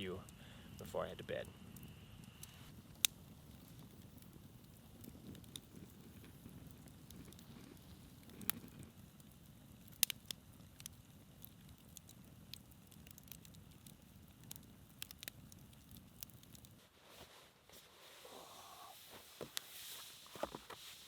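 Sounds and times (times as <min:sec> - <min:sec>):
campfire wood crackling: 0:00.0 - 0:21.0.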